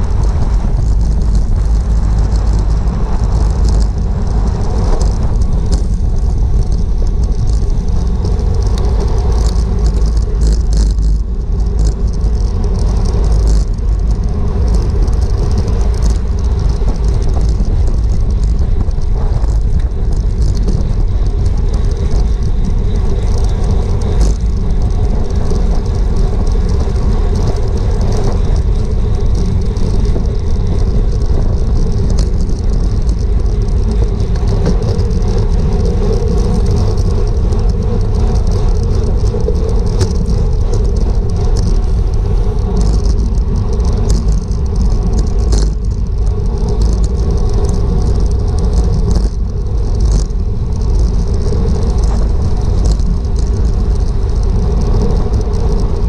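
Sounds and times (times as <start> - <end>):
road and bike noise: 0.0 - 56.0
wind rumbling on microphone: 0.0 - 56.0.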